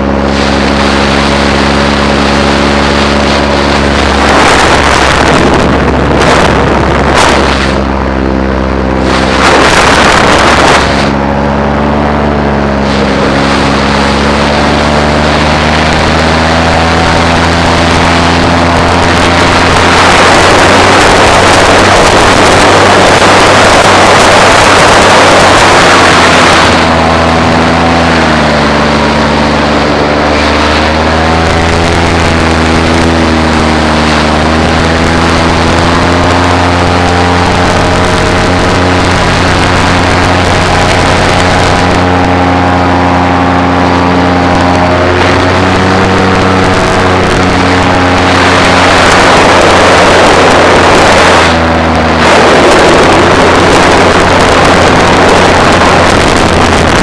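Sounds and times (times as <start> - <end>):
loud rushing noise: 0.0 - 57.0
paramotor engine and propeller: 0.0 - 57.0.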